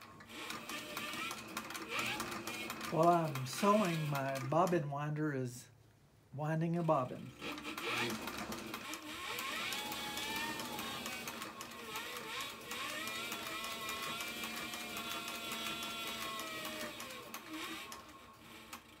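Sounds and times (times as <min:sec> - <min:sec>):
sewing machine motor whine: 0:00.0 - 0:04.8, 0:07.1 - 0:19.0
sewing machine needle clicking: 0:00.0 - 0:04.8, 0:07.4 - 0:19.0
bobbin winder winding: 0:00.0 - 0:04.9, 0:07.1 - 0:19.0.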